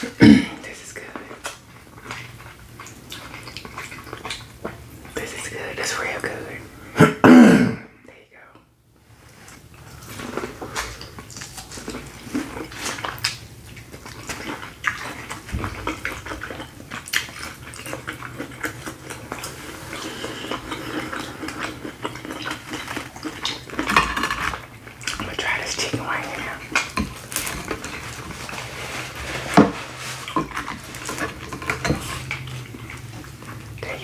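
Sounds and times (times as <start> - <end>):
wet chewing and smacking: 1.1 - 5.2, 9.2 - 34.0.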